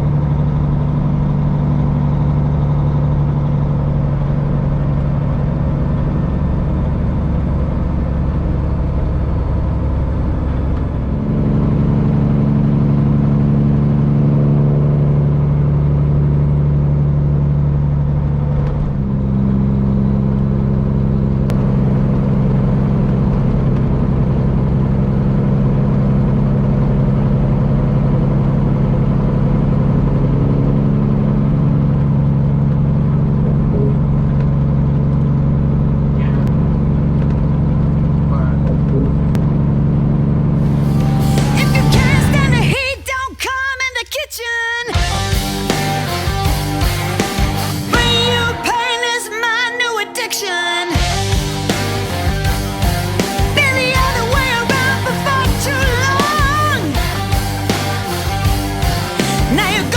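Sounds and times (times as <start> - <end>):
diesel truck engine running: 0.0 - 44.2, 45.0 - 49.8, 50.8 - 59.9.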